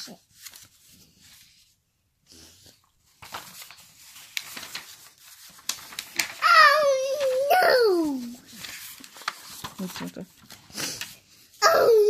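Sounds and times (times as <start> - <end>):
book pages rustling: 0.0 - 1.9, 2.6 - 12.0.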